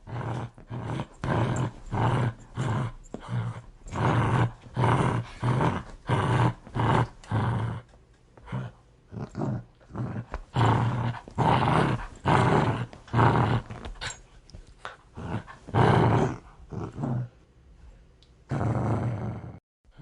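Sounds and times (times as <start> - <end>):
dog growling: 0.0 - 14.2, 14.8 - 17.4, 18.5 - 19.6.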